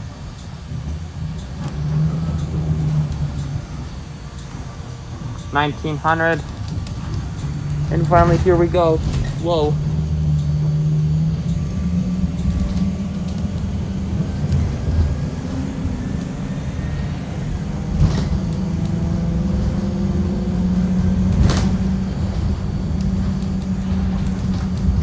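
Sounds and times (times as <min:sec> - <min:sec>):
bus engine drone with whine: 0:00.0 - 0:25.0.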